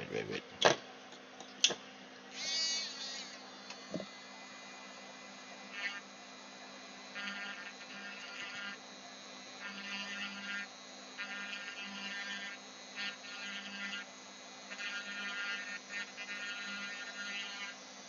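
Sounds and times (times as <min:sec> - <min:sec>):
electric grinding pen whining: 0:00.0 - 0:18.0.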